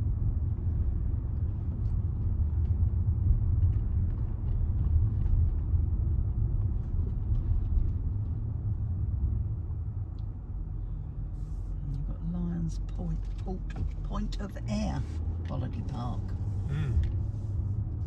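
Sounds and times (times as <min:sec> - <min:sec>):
road and engine rumble in car: 0:00.0 - 0:18.0.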